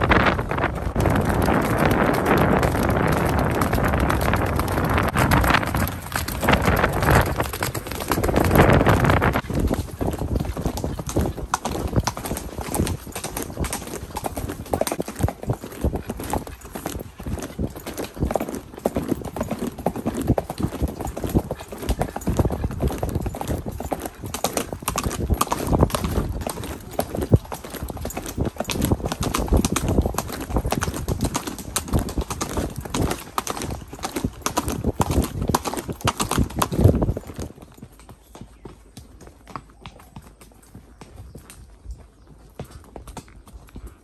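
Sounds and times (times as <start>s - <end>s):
horse hooves clip-clopping: 0.0s - 44.0s.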